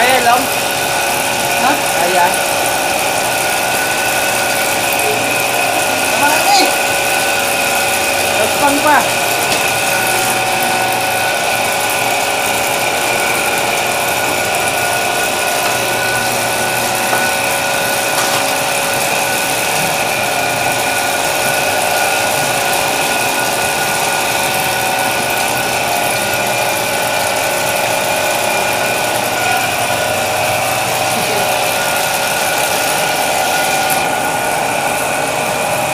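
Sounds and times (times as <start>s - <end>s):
dough sheeter motor humming: 0.0s - 35.9s.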